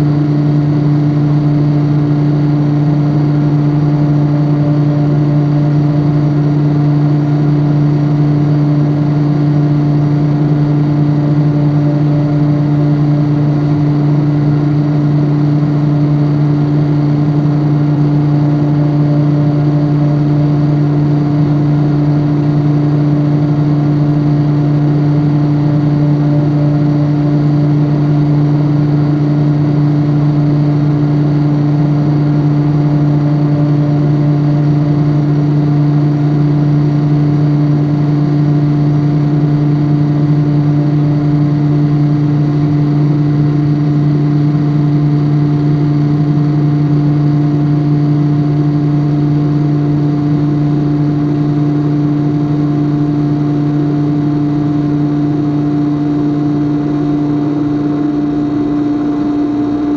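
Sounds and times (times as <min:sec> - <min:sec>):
electrical appliance humming: 0:00.0 - 0:59.9.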